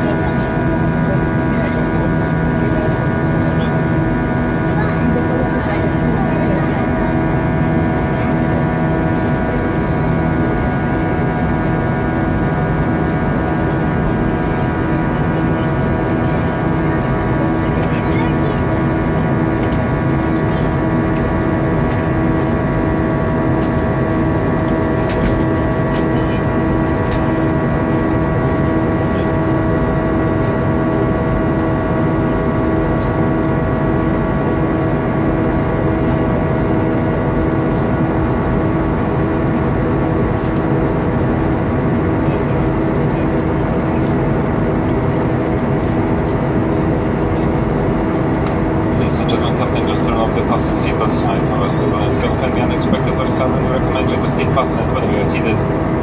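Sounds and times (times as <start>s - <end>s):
airplane cabin engine rush: 0.0s - 56.0s
pulsing low hum: 0.0s - 56.0s.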